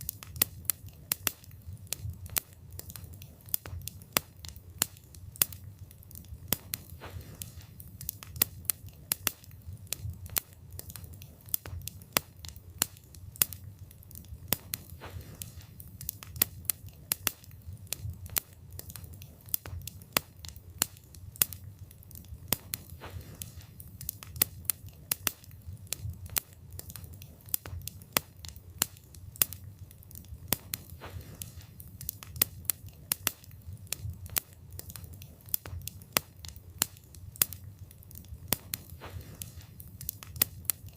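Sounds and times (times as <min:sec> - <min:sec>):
burning wood crackling and popping: 0:00.0 - 0:40.9
low rumble of flames: 0:00.0 - 0:40.9.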